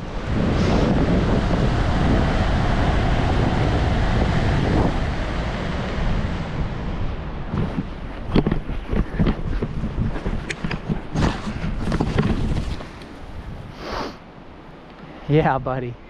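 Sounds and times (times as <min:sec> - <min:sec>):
wind buffeting microphone: 0:00.0 - 0:14.8.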